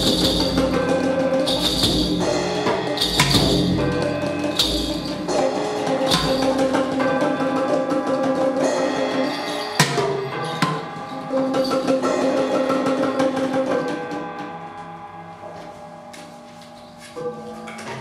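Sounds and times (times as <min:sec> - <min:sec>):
hand drum: 0:00.0 - 0:15.8
frame drum: 0:00.0 - 0:18.0.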